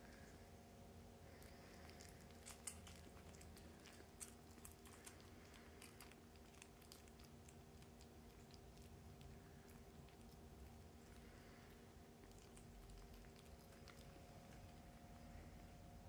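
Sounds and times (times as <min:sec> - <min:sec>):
low steady hum: 0:00.0 - 0:16.0
kittens suckling wet clicks: 0:01.2 - 0:15.9.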